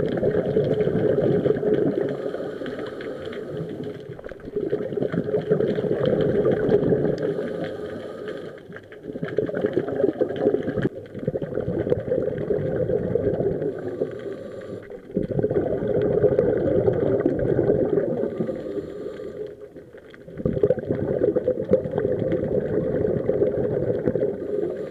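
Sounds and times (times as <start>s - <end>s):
underwater exhaled bubbles: 0.0s - 24.9s.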